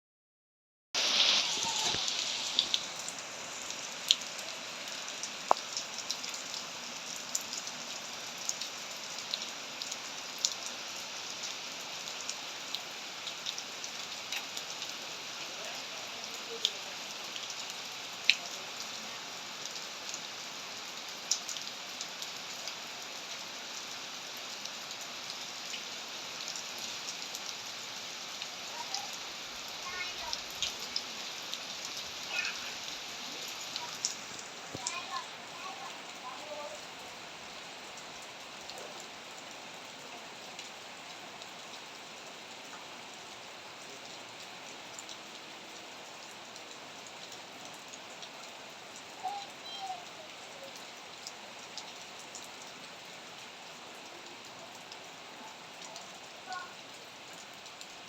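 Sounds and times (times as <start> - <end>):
steady rain falling: 1.0 - 58.0.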